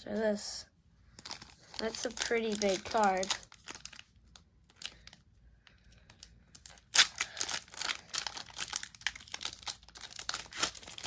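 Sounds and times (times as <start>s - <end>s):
card pack wrapper crinkling: 1.2s - 5.2s, 6.1s - 11.0s.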